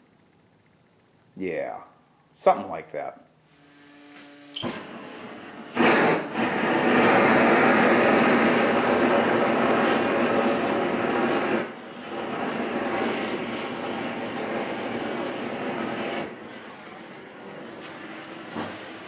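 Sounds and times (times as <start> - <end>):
propane burner roaring hiss: 3.5 - 19.0.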